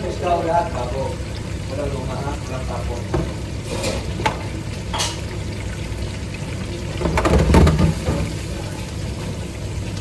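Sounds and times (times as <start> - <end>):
food deep-frying in oil: 0.0 - 10.0.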